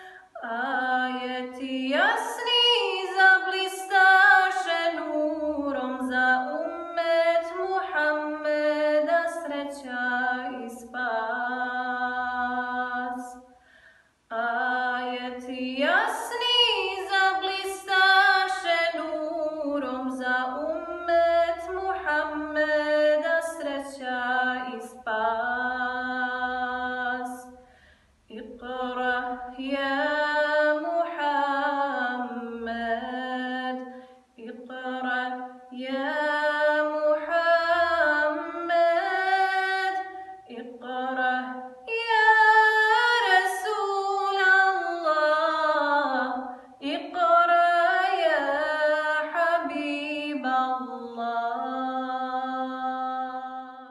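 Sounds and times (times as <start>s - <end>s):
woman singing unaccompanied hymn: 0.0s - 13.5s, 14.3s - 27.6s, 28.3s - 53.9s.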